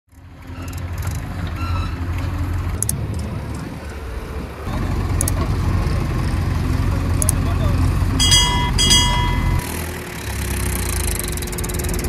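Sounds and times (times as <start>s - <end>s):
tractor engines: 0.2s - 12.0s.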